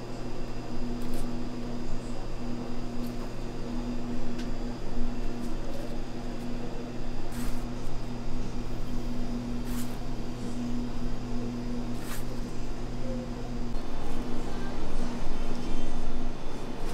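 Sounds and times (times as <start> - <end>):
machinery humming: 0.0 - 16.9.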